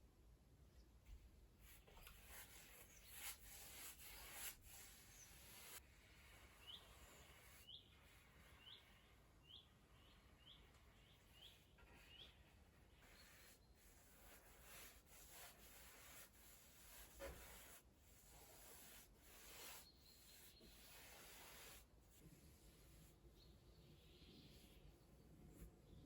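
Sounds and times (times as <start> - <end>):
faint bird chirping: 0.6 - 15.0, 18.9 - 26.0.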